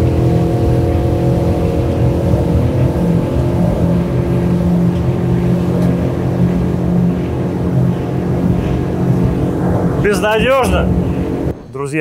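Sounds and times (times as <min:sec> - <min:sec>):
outboard motor running: 0:00.0 - 0:11.6.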